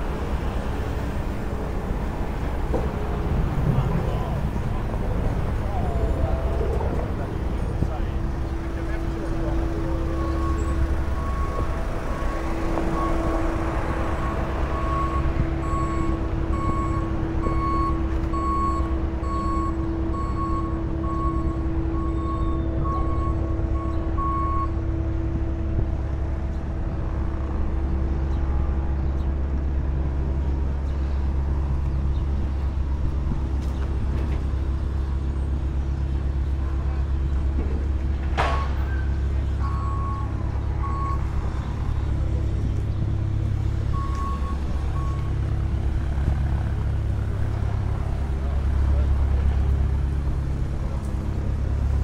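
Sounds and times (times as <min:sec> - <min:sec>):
large engine rumbling: 0:00.0 - 0:52.0.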